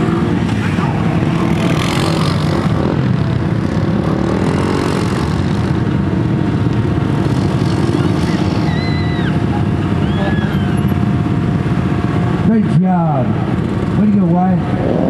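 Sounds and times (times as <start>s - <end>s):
quad bike engine revving: 0.0s - 12.8s, 13.5s - 15.0s
engines running loudly: 0.0s - 15.0s.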